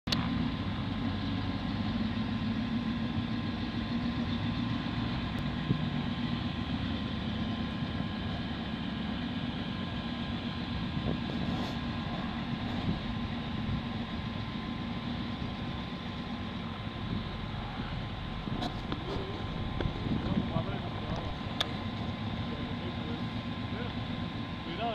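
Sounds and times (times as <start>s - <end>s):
atv engine running: 0.1s - 24.9s.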